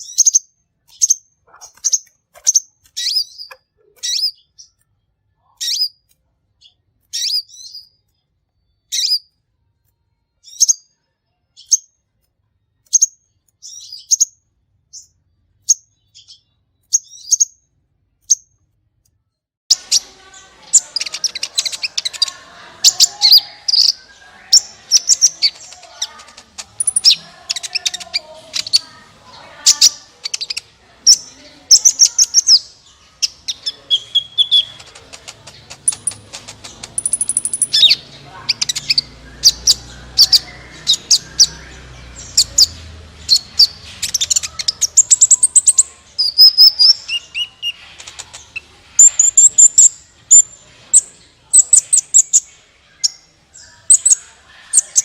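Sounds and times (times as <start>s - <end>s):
sunbird chirping and twittering: 0.0s - 9.4s, 10.3s - 11.9s, 12.8s - 17.6s, 19.7s - 55.0s.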